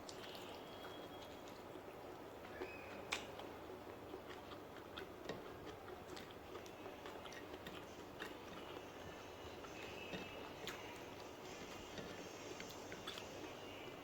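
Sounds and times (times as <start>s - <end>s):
chewing clicks and crackles: 0.0s - 14.0s.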